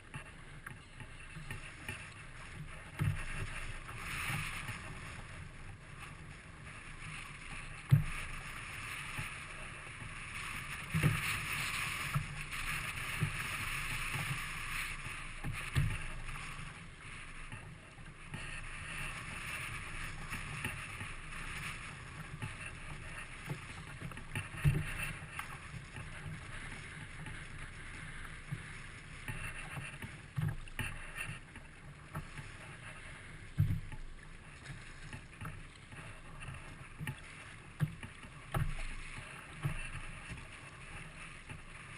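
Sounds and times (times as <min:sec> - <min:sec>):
wind and water hiss: 0:00.0 - 0:41.9.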